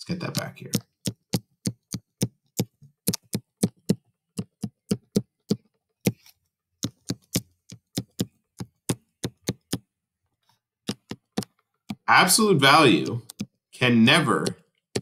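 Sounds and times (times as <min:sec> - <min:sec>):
stylus tapping on touchscreen: 0:00.2 - 0:09.9, 0:10.8 - 0:15.0.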